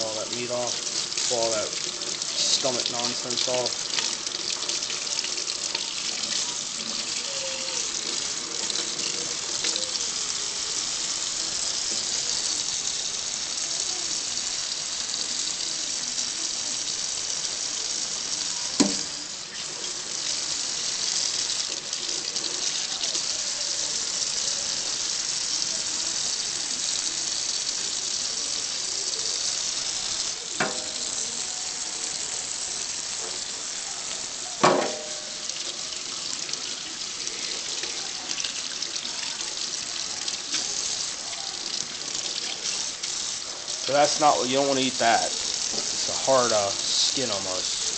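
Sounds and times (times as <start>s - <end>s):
faucet running into sink: 0.0s - 47.9s.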